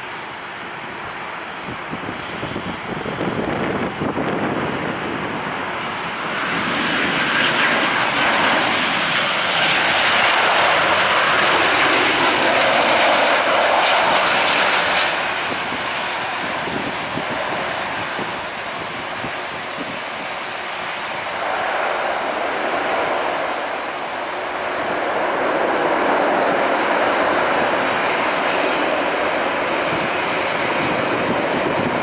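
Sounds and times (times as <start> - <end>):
jet airliner passing by: 0.0 - 32.0.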